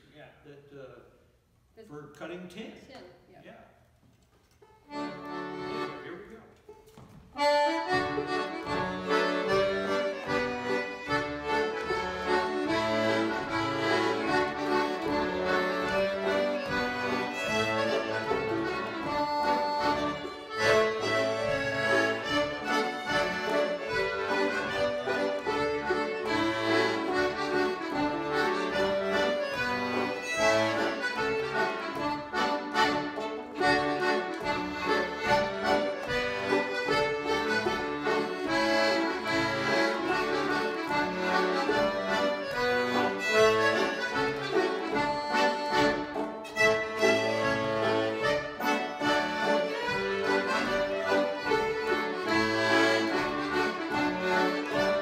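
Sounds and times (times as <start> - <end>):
accordions playing: 4.6 - 55.0
fiddle: 6.7 - 55.0
banjo: 7.4 - 55.0.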